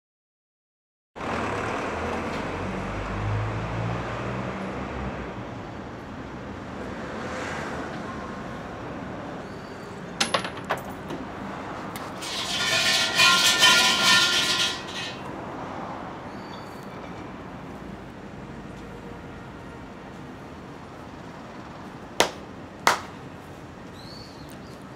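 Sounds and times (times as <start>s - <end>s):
outdoor background noise: 1.2s - 24.9s.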